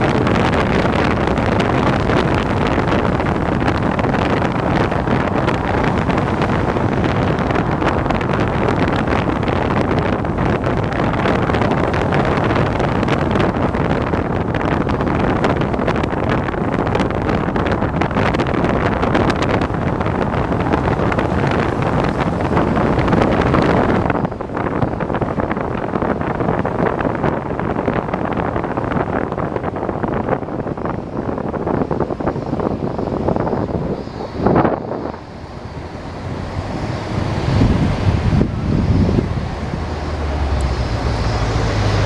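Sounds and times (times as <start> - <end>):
moving vehicle road and engine noise: 0.0 - 42.0
wind rush over microphone: 0.0 - 42.0.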